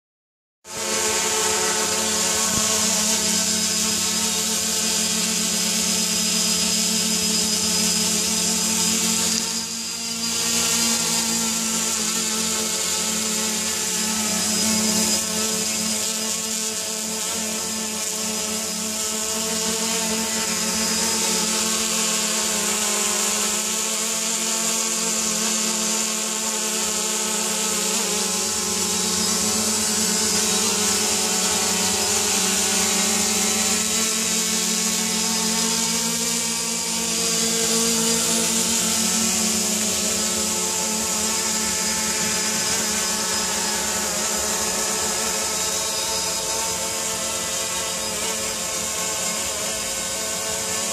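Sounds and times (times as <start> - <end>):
quadcopter buzzing whine: 0.6 - 50.9.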